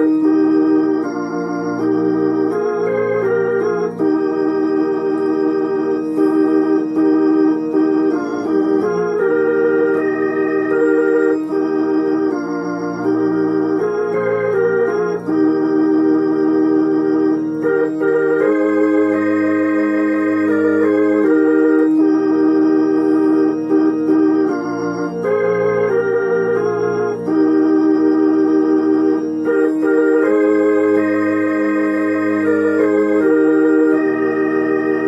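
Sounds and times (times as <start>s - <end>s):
hymn chords on organ voice piano: 0.0s - 35.0s.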